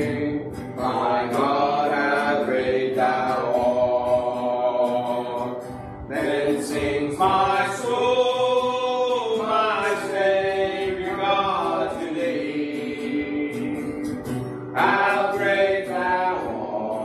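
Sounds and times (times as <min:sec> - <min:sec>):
hymn singing: 0:00.0 - 0:17.0.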